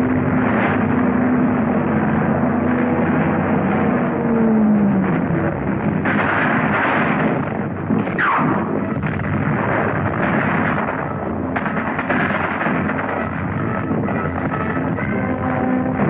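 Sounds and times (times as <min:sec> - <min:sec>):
artillery and gunfire explosions: 0:00.0 - 0:16.0.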